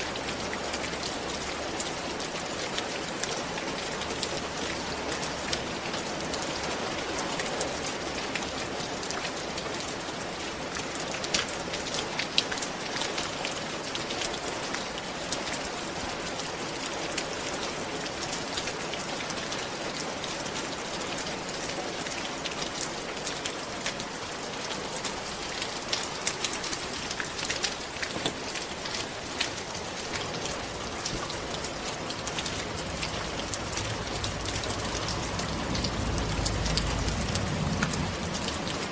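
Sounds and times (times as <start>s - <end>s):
rain on a roof: 0.0s - 38.9s
raindrops tapping: 0.0s - 38.9s.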